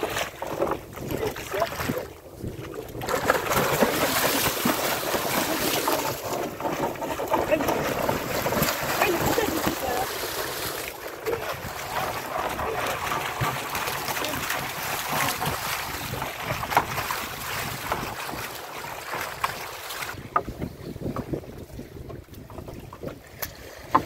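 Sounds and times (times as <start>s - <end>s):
splashes: 0.0s - 24.0s
water noise: 0.0s - 24.0s
wind: 0.0s - 24.0s.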